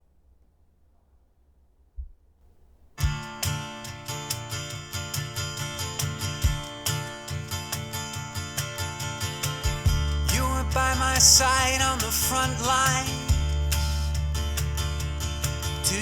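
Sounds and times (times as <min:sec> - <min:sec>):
song with strummed guitar and bass: 0:03.0 - 0:16.0.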